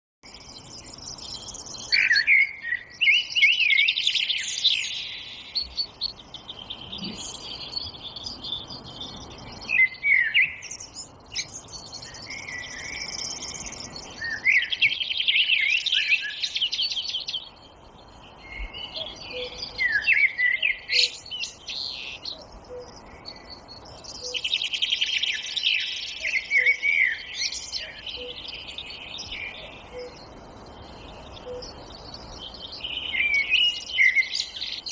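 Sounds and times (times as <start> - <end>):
songbirds warbling: 0.2 - 34.9
soft steady background hiss: 0.3 - 34.9.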